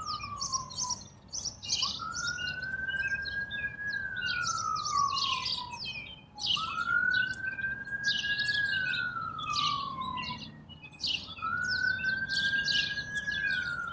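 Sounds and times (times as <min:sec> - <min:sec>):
birds chirping and twittering: 0:00.0 - 0:13.9.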